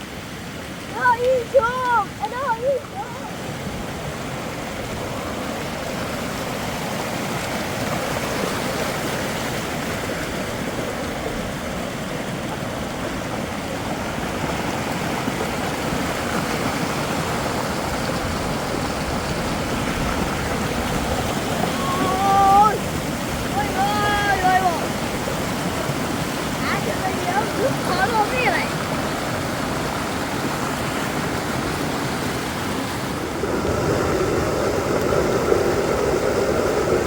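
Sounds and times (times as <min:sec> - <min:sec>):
running water: 0:00.0 - 0:37.0
heavy rain: 0:00.8 - 0:37.0.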